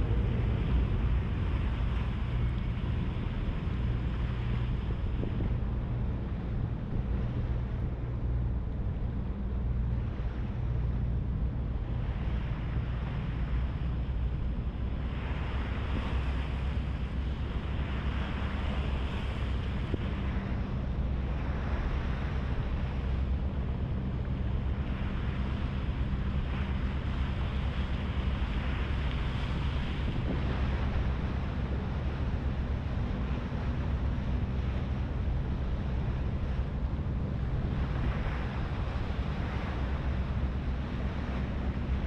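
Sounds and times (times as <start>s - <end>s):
ferry engine drone: 0.0s - 42.0s
water rushing along hull: 0.0s - 42.0s
wind on microphone: 0.0s - 42.0s.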